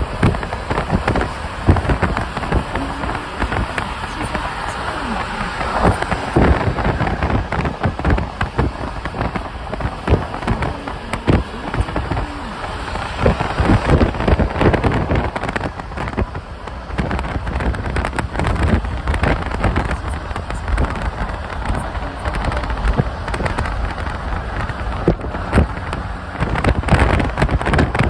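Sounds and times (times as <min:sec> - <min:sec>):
car engine and exhaust rumble: 0:00.0 - 0:28.0
road noise: 0:00.0 - 0:28.0
wind buffeting on microphone: 0:00.0 - 0:28.0.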